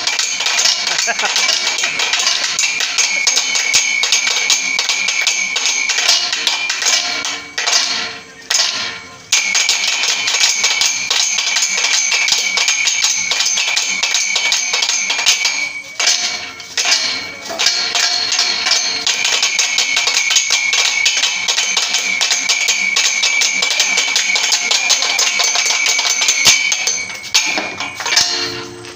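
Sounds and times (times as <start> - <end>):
fast stick drumming: 0.0 - 28.9
metallic ring: 0.0 - 28.9.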